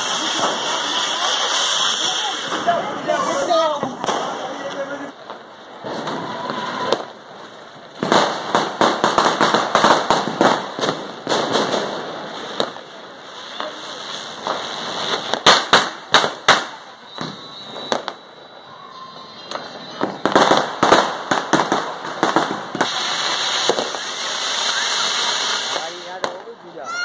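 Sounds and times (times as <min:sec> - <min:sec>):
sharp firework cracks: 0:00.0 - 0:18.2, 0:19.5 - 0:26.6
firework fizzing hiss: 0:00.0 - 0:26.6
rapid firework crackling: 0:00.0 - 0:26.7.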